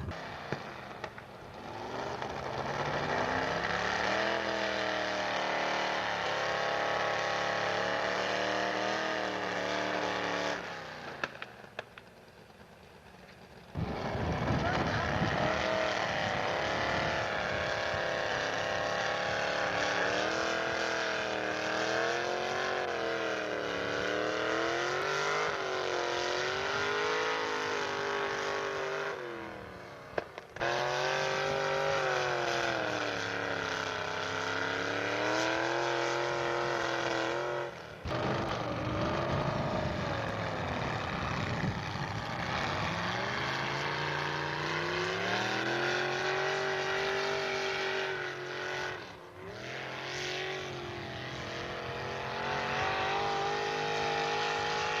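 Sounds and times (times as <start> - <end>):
truck engine under load: 0.0 - 55.0.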